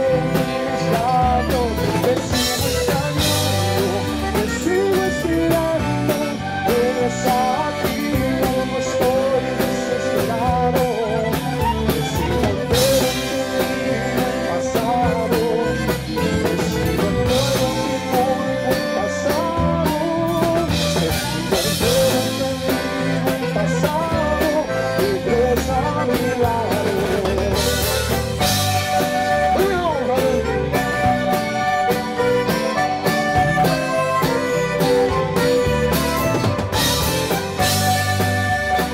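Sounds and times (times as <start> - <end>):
accordion melody: 0.0 - 38.9
bass: 0.0 - 38.9
drum kit beat: 0.0 - 38.9
guitar: 0.0 - 38.9.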